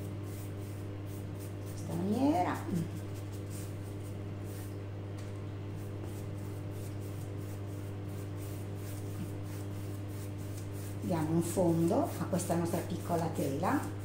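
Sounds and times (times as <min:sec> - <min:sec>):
paintbrush scratchy swishes: 0:00.0 - 0:04.8, 0:05.8 - 0:14.0
steady low hum: 0:00.0 - 0:14.0.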